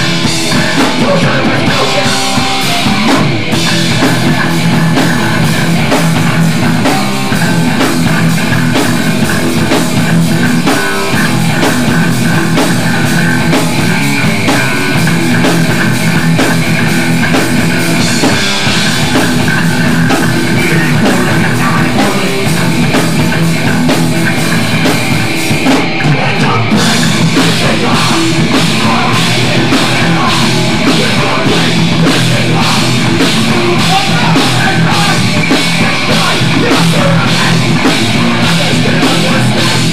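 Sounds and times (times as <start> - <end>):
bass guitar: 0.0 - 39.9
distorted electric guitars: 0.0 - 39.9
pounding drum kit: 0.0 - 39.9.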